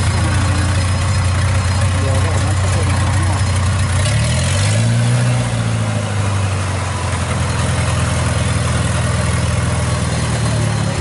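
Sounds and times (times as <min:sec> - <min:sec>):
tracked carrier engine running: 0:00.0 - 0:11.0.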